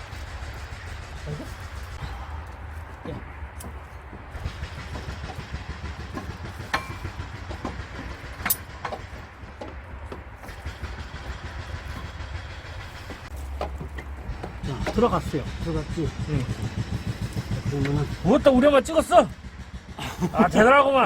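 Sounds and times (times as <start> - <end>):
metal clinks and knocks: 0.8 - 18.4.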